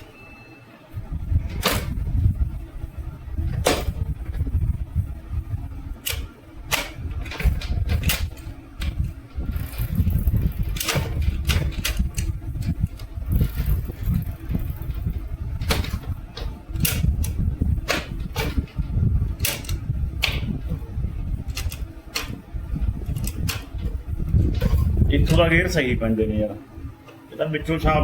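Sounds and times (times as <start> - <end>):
loud uneven low rumble: 0.9 - 27.0.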